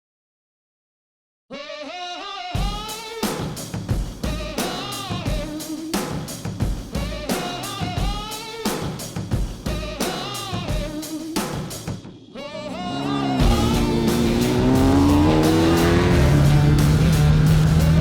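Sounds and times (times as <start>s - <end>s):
steady drum beat: 2.6s - 12.1s, 12.8s - 18.0s.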